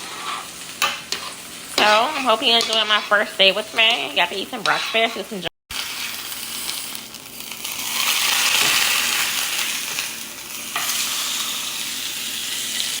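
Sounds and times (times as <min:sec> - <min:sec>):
sauce sizzling in a pan: 0:00.0 - 0:13.0.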